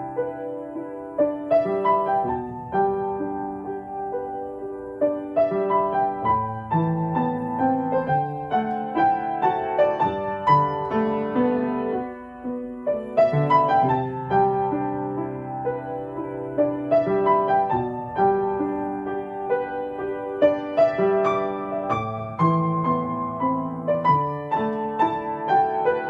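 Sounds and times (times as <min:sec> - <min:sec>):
slow solo piano: 0:00.0 - 0:26.0.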